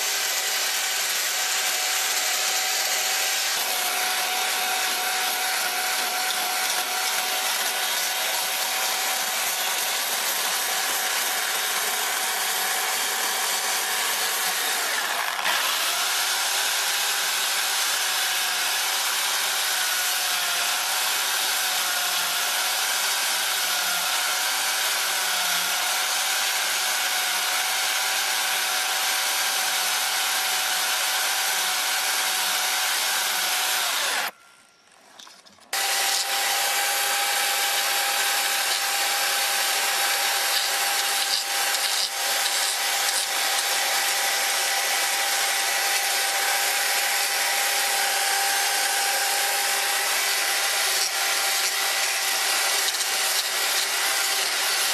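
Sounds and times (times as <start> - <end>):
chainsaw cutting log: 0.0 - 34.4, 35.7 - 54.9.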